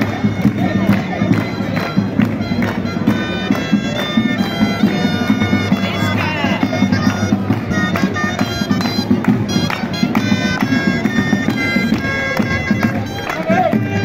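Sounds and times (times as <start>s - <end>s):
drum beat: 0.0s - 14.0s
shrill double-reed pipes melody: 0.0s - 14.0s.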